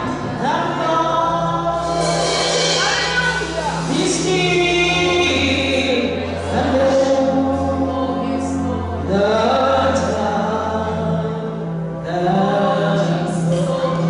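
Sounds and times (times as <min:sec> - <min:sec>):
choir singing gospel: 0:00.0 - 0:14.0
low accompaniment: 0:00.0 - 0:14.0.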